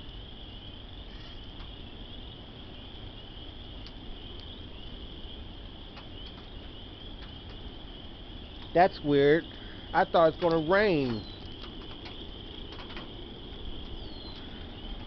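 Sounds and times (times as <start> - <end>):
crickets chirping: 0.0 - 15.0
wind rumble on microphone: 0.0 - 15.0
faint ticks: 0.9 - 2.2, 3.6 - 5.1, 5.7 - 15.0.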